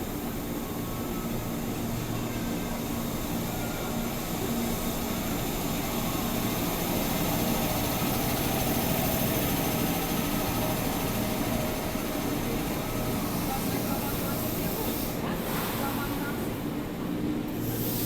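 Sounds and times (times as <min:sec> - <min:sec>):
electric train humming: 0:00.0 - 0:15.2.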